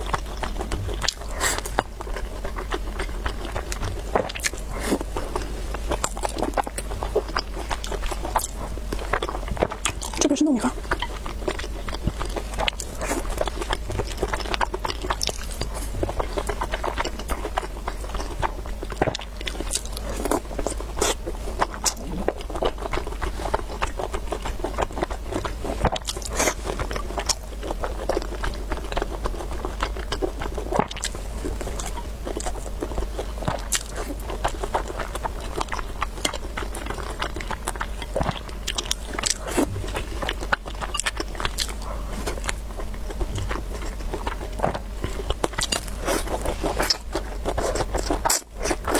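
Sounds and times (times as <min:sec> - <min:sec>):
person chewing and biting: 0:00.0 - 0:48.9.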